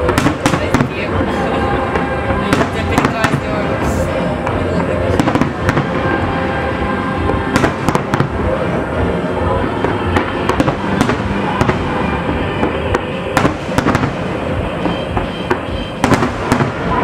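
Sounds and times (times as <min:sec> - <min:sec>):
fireworks crackling: 0:00.0 - 0:17.0
fireworks sharp bangs: 0:00.0 - 0:17.0.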